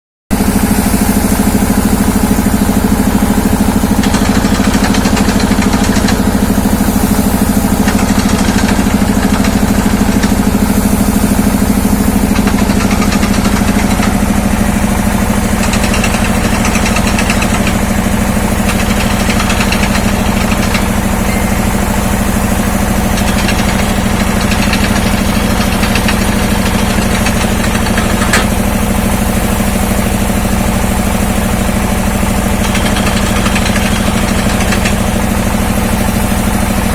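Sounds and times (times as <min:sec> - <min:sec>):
drilling machine engine running: 0:00.3 - 0:36.9.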